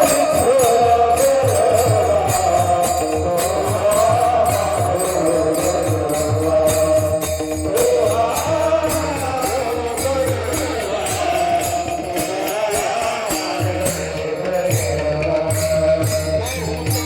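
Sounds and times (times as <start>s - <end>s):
drum strokes: 0.0s - 17.0s
jingling metallic percussion: 0.0s - 17.0s.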